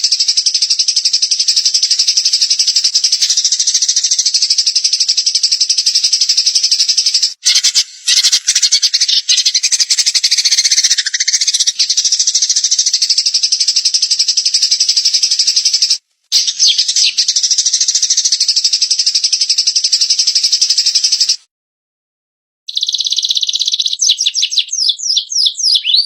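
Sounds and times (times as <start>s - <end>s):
songbird buzzy trill: 0.0s - 21.5s, 22.7s - 26.0s.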